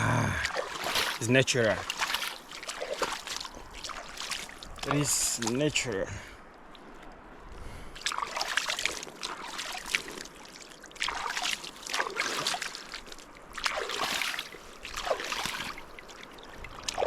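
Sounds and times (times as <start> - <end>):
river washing: 0.0 - 17.0
water splashing and sloshing: 0.0 - 17.0.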